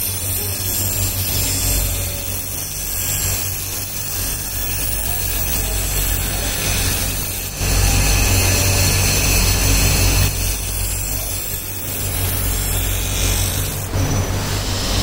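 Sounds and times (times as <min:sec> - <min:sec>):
blade grinding on wheel: 0:00.0 - 0:15.0
grinder motor hum: 0:00.0 - 0:15.0.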